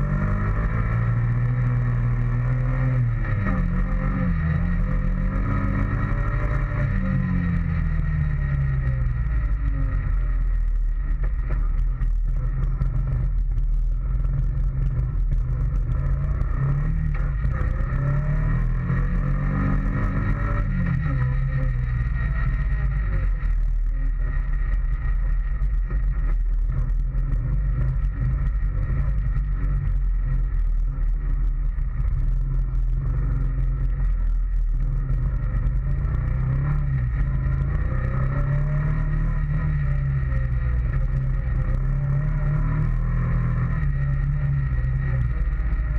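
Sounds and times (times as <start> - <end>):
atv engine revving: 0.0 - 10.5, 14.0 - 45.9.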